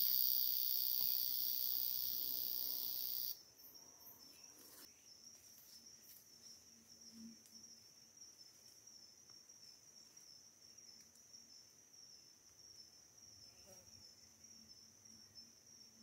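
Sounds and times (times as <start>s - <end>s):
insects buzzing high-pitched: 0.0s - 16.0s
insects trilling: 0.0s - 16.0s.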